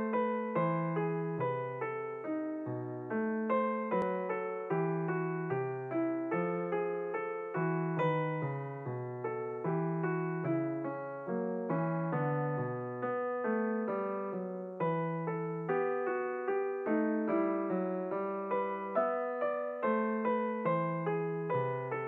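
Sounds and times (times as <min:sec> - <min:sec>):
keyboard notes: 0:00.0 - 0:22.0.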